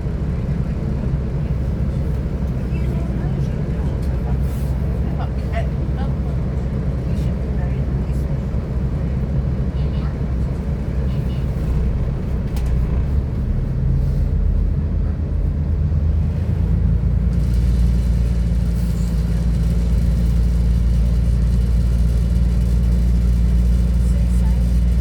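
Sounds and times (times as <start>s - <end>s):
diesel train engine drone: 0.0s - 25.0s
train running noise: 0.0s - 25.0s.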